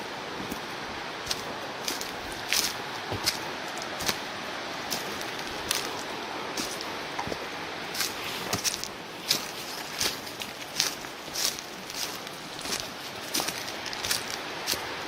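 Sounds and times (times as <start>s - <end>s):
steady background hiss: 0.0s - 15.0s
footsteps crunching on trail: 0.4s - 15.0s.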